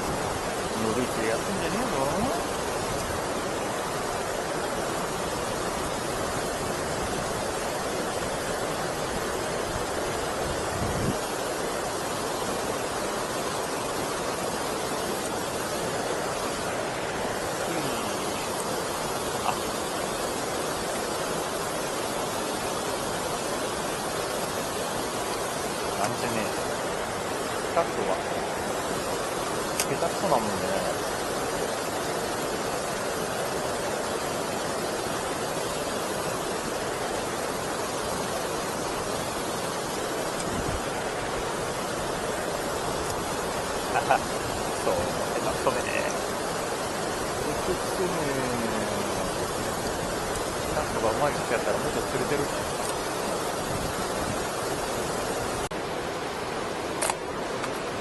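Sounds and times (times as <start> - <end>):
water rushing over weir: 0.0 - 58.0.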